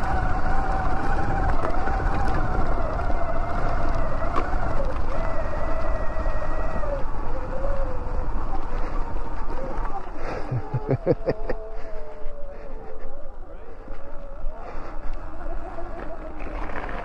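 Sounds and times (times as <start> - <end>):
electric bike motor whining: 0.0 - 17.0
tyres rumbling on dirt: 0.0 - 17.0.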